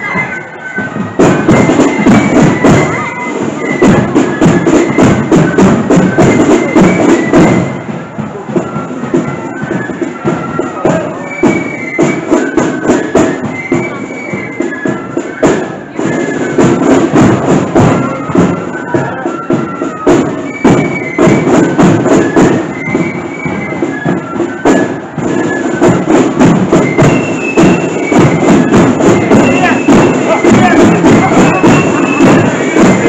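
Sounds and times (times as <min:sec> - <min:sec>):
flutes playing melody: 0:00.0 - 0:33.0.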